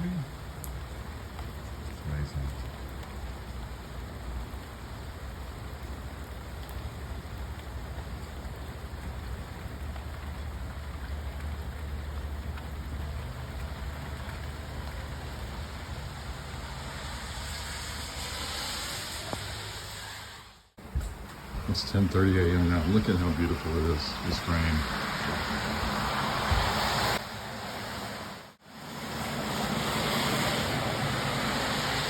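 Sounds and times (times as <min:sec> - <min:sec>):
gentle rain falling: 0:00.0 - 0:32.0.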